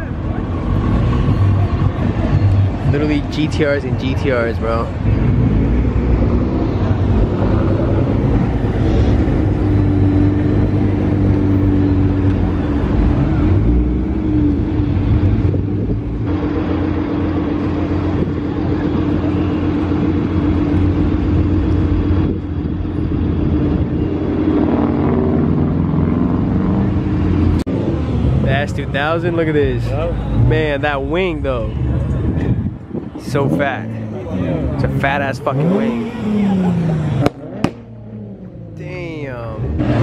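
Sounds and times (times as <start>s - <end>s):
car engine idling: 0.0s - 39.6s.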